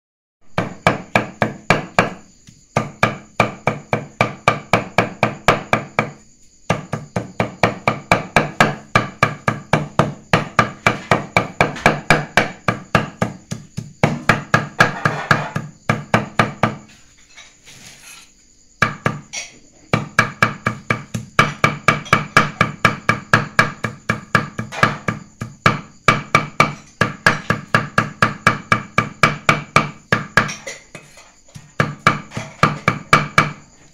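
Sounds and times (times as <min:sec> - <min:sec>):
cleaver chopping on wooden block: 0:00.5 - 0:16.8, 0:18.8 - 0:33.7.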